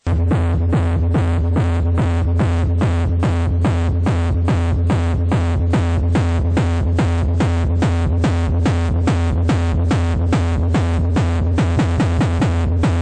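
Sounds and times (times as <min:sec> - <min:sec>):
electronic dance music: 0:00.0 - 0:13.0.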